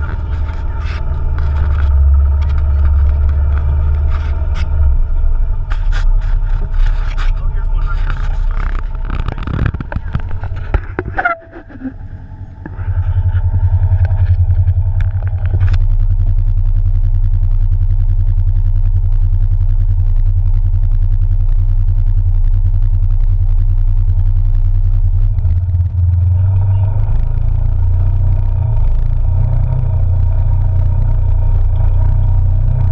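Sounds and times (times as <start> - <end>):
off-road vehicle engine droning: 0.0 - 32.9.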